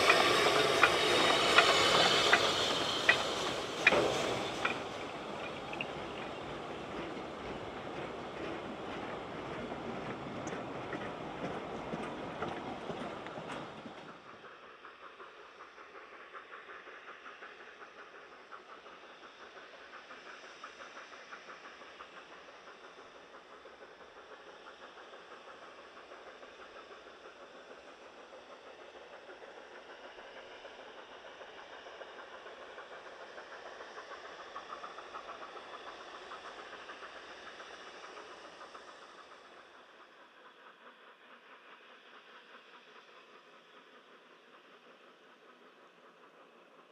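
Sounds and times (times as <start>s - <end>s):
steam hissing: 0.0s - 46.9s
steam locomotive exhaust beats: 0.0s - 46.9s.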